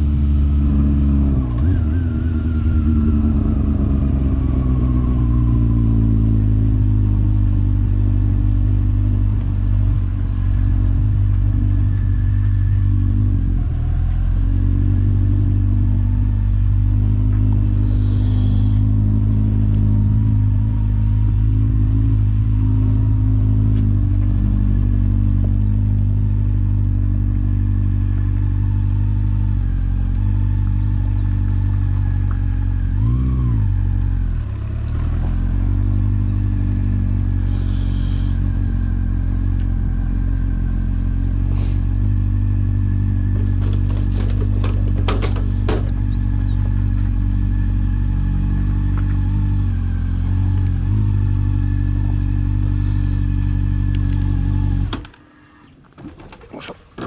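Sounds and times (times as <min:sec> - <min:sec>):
motorcycle engine running: 0:00.0 - 0:55.8.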